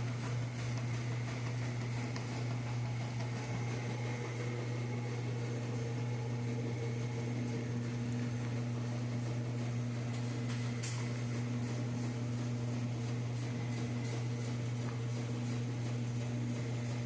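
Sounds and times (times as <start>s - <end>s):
washing machines running: 0.0s - 17.0s.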